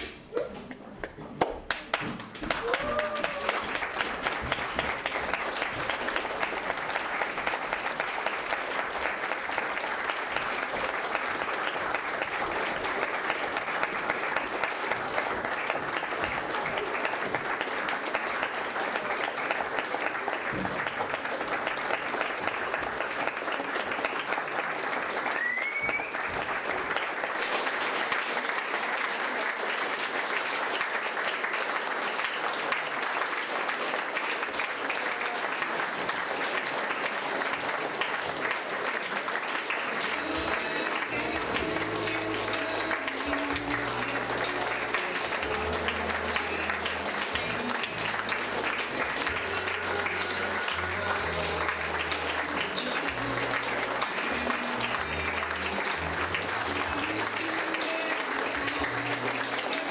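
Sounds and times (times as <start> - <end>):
audience applauding: 0.6 - 59.9.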